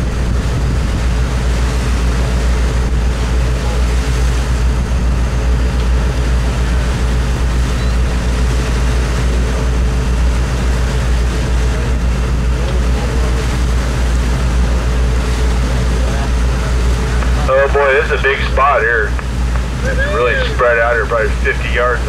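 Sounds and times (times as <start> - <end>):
boat engine droning: 0.0 - 22.0
wake and wind rushing: 0.0 - 22.0.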